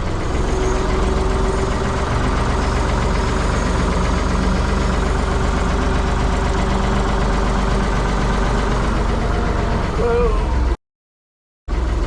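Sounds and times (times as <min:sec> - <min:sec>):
backhoe engine running steadily: 0:00.0 - 0:10.8, 0:11.7 - 0:12.0.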